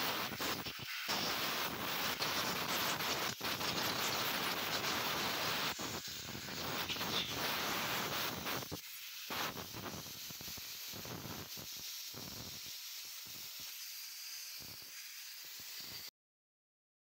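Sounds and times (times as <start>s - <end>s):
compressed-air blow gun hissing: 0.0s - 16.1s.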